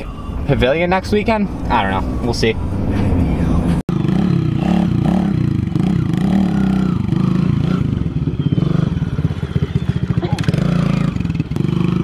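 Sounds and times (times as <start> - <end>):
motorcycle engine revving: 2.0 - 12.0.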